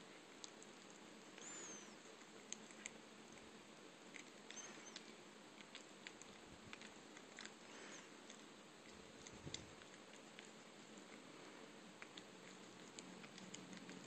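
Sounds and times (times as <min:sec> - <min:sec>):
cat licking paw: 0:00.1 - 0:14.0.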